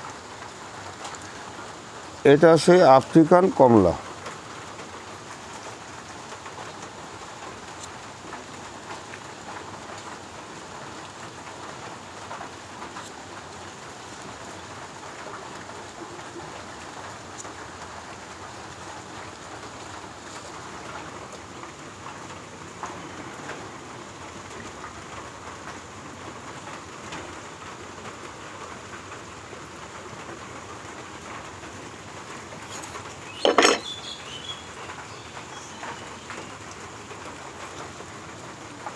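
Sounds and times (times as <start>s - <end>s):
light drips and ticks: 0.0s - 38.9s
rain pattering: 0.0s - 38.9s.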